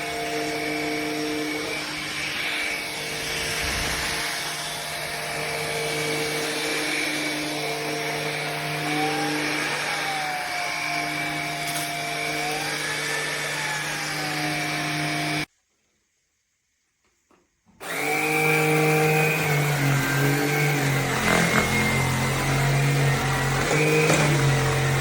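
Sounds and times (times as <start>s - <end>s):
vacuum motor whining: 0.0s - 15.5s, 17.8s - 25.0s.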